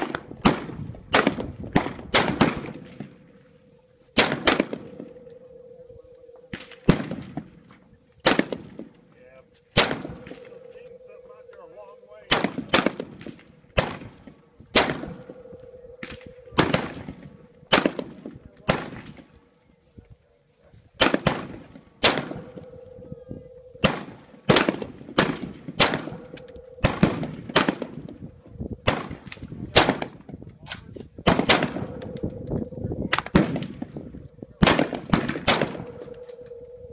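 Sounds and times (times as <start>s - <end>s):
rifle shots with echo: 0.0s - 9.0s, 9.7s - 19.3s, 21.0s - 30.2s, 31.2s - 36.9s.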